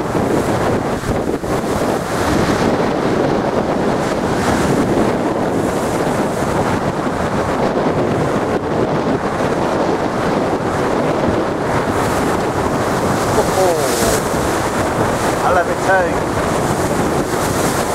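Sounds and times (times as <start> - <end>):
storm surf against sea wall: 0.0 - 17.9
wind buffeting microphone: 0.0 - 17.9.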